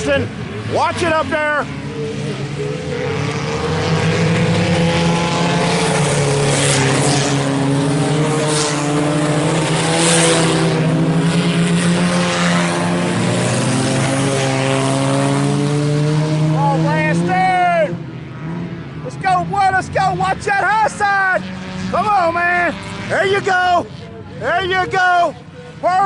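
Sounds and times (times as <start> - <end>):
cars rushing past: 0.0 - 26.0
race car engines at speed: 0.0 - 26.0.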